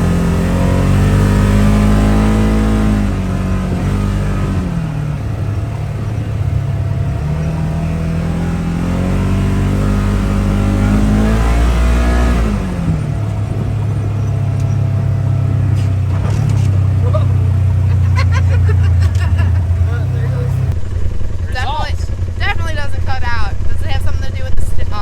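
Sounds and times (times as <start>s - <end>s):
utility vehicle engine revving: 0.0s - 25.0s.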